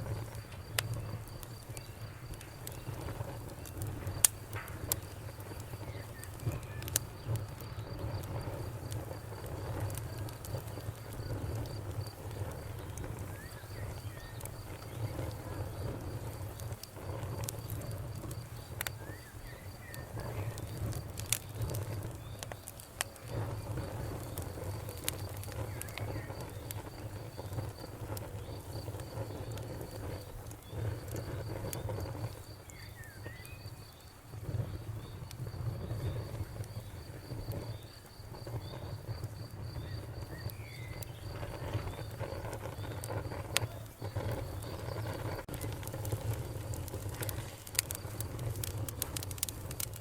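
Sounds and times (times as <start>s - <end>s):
insect chirping: 0.0s - 49.8s
wood fire crackling and popping: 0.0s - 50.0s.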